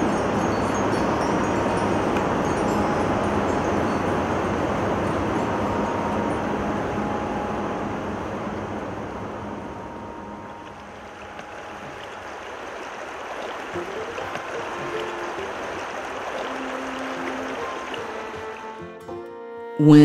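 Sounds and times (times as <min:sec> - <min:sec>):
river water rushing: 0:00.0 - 0:19.2.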